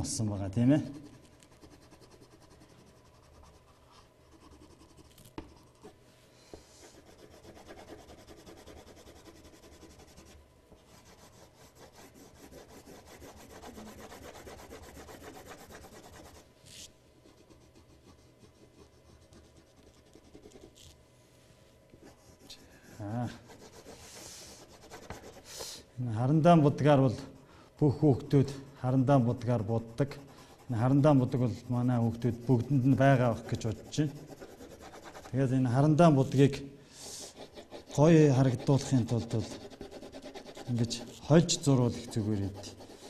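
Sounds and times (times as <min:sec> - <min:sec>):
pencil rubbing on paper: 0:01.0 - 0:05.9, 0:06.7 - 0:21.0, 0:22.0 - 0:25.7, 0:28.2 - 0:36.4, 0:37.0 - 0:43.0.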